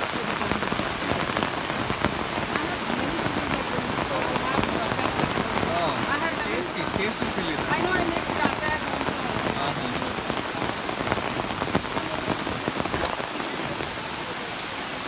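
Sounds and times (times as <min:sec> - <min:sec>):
rain on foliage: 0:00.0 - 0:15.0.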